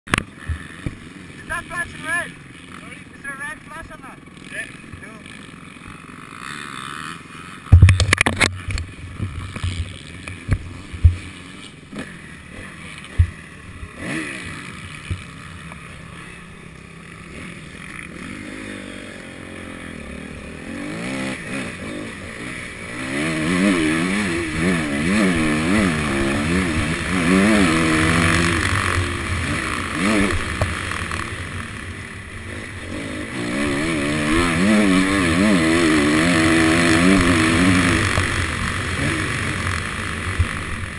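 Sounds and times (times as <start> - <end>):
motorcycle engine revving: 0.1 - 40.9.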